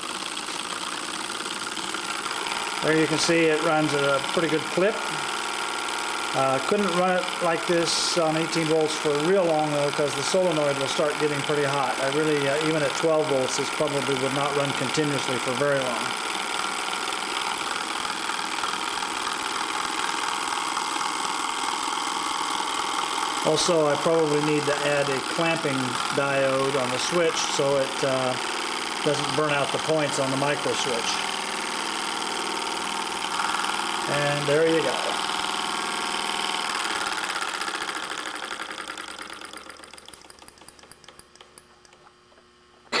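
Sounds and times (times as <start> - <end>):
solenoid engine mechanical chatter: 0.0 - 43.0.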